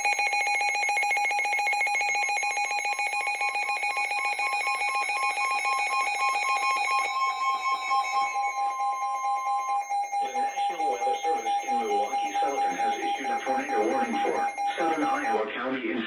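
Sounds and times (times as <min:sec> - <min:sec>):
emergency alert tone: 0:00.0 - 0:15.5.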